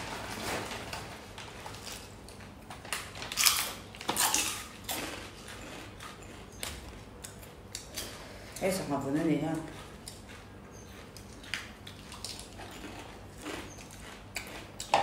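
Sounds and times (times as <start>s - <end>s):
crunching and rustling while eating: 0.0s - 15.0s.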